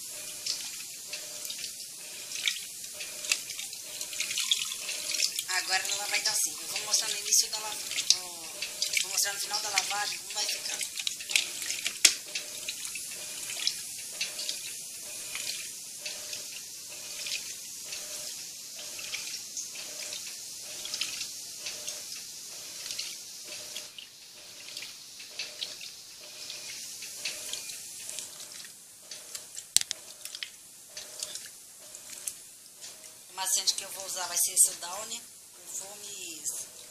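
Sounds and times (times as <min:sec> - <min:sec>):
water sloshing in washing machine: 0:00.0 - 0:34.3, 0:36.2 - 0:36.9.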